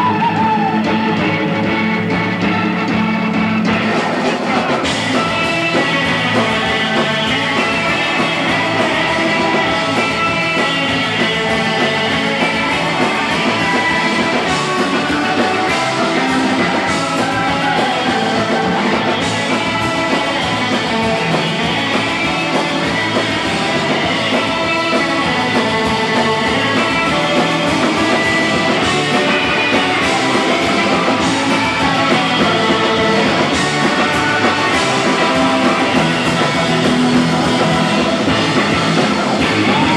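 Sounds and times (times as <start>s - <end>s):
driving drum kit: 0.0s - 39.9s
electric guitars: 0.0s - 39.9s.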